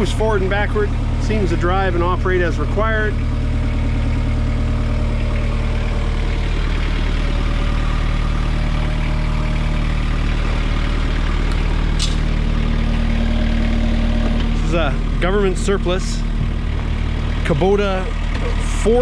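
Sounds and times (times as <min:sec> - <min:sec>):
diesel mower engine running: 0:00.0 - 0:19.0.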